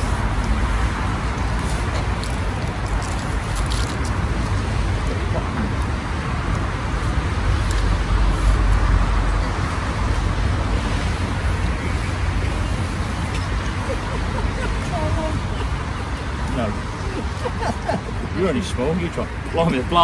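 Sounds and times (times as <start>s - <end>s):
outdoor background noise with low rumble: 0.0s - 20.0s.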